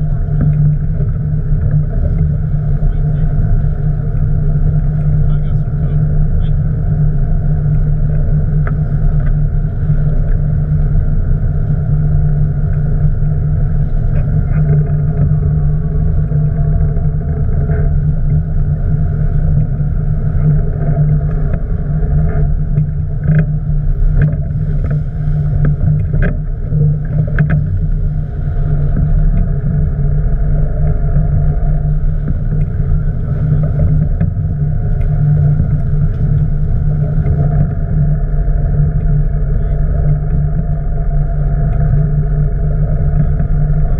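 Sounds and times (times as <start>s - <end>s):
boat engine running: 0.0s - 43.9s.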